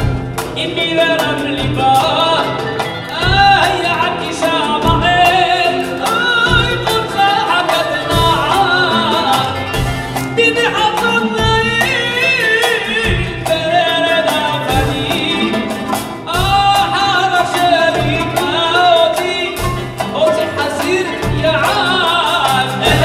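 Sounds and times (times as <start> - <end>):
drum beats: 0.0 - 23.0
string ensemble: 0.0 - 23.0
man singing ornamented melody: 0.5 - 23.0.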